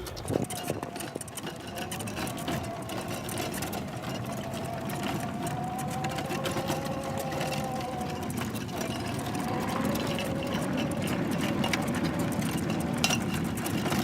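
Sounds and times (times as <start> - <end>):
golf cart motor whine: 0.0 - 14.0
low rattly rumble: 0.0 - 14.0.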